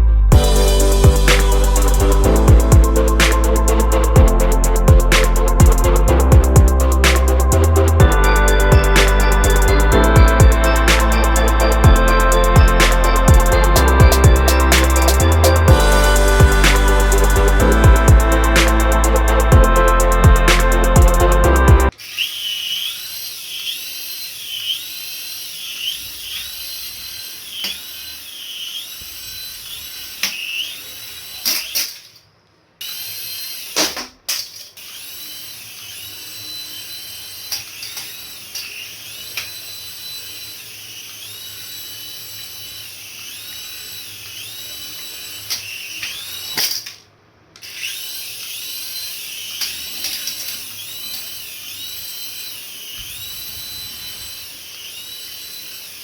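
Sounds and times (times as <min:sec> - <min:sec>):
toy electric motor whining: 0:00.3 - 0:56.0.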